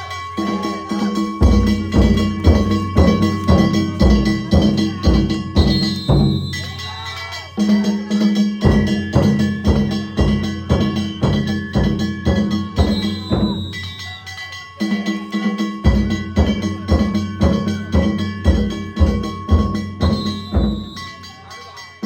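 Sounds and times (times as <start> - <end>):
drums beating: 0.0 - 22.0
metal gongs ringing: 0.0 - 22.0.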